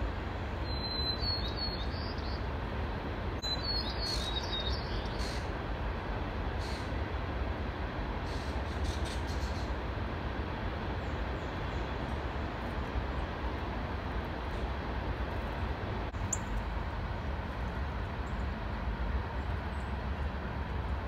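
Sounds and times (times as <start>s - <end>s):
low outdoor rumble and hiss: 0.0s - 21.0s.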